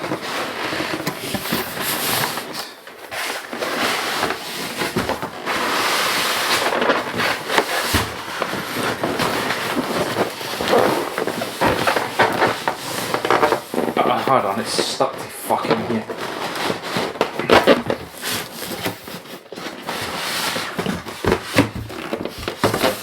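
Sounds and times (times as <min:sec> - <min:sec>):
packing material rustling: 0:00.0 - 0:23.0.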